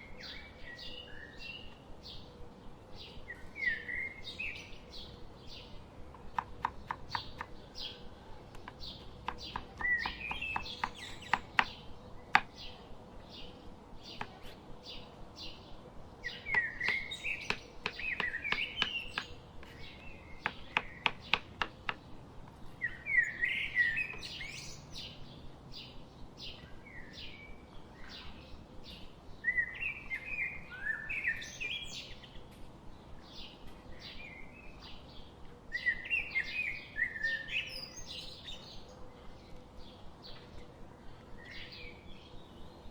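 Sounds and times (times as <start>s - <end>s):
bird chirping: 0.0s - 42.9s
bird warbling song: 0.0s - 42.9s.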